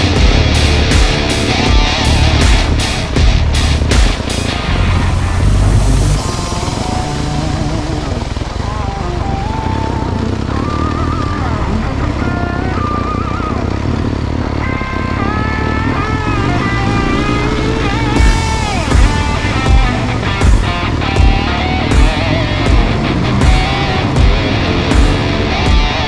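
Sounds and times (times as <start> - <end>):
background music: 0.0 - 26.0
motorcycle engine running: 0.0 - 26.0.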